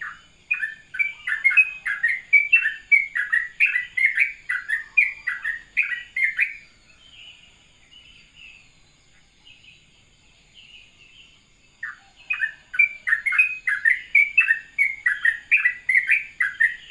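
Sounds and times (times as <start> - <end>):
bulbul singing: 0.0 - 16.9.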